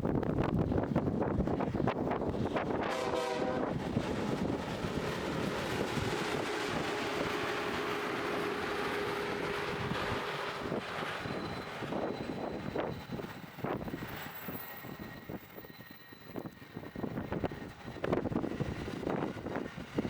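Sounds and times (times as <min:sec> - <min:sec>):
wind buffeting microphone: 0:00.0 - 0:20.0
train passing at speed: 0:00.4 - 0:20.0.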